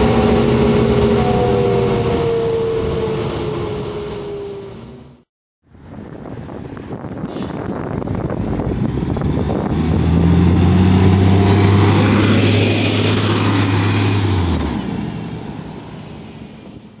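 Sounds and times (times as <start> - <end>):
bus engine passing by: 0.0 - 17.0.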